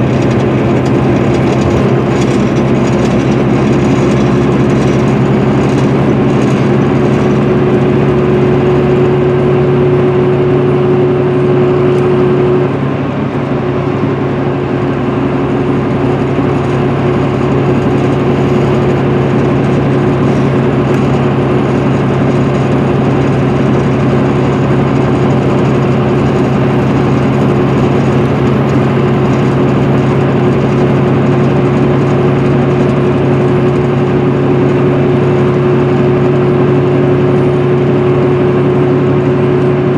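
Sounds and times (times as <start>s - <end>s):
diesel engine droning: 0.0s - 39.9s
road and tyre noise: 0.0s - 39.9s
steady whine: 0.0s - 39.9s.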